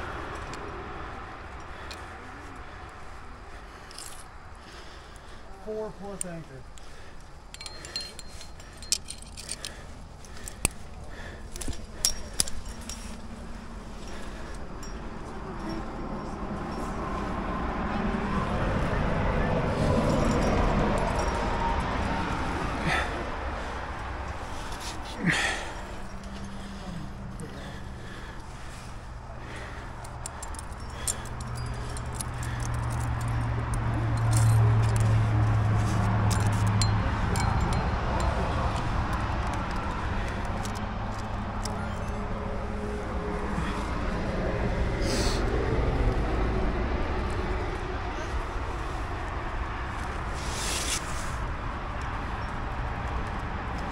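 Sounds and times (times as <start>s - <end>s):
carabiners clinking and jangling: 0.0s - 17.7s, 18.4s - 46.4s, 47.0s - 53.9s
steady low drone: 0.0s - 50.3s.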